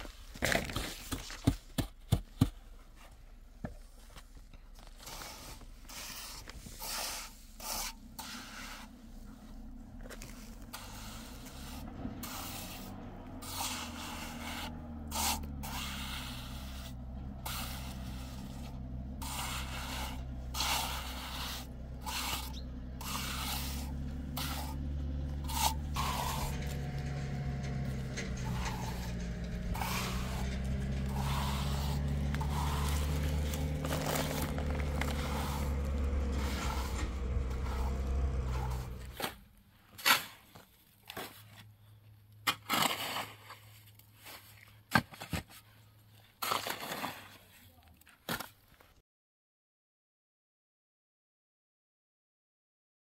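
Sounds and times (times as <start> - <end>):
trowel scraping wet cement: 4.8 - 41.7, 42.4 - 48.6.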